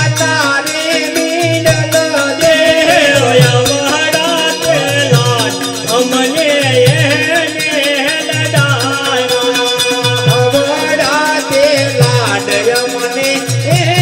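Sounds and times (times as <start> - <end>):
jingling percussion: 0.0 - 14.0
low drum beat: 0.0 - 14.0
wavering folk melody: 0.8 - 14.0.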